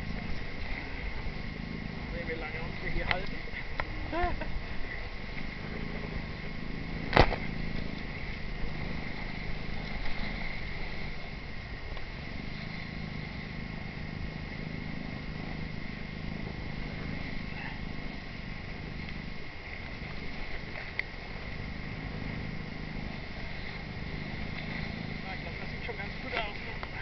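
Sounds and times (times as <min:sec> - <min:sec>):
water rushing past boat: 0:00.0 - 0:27.0.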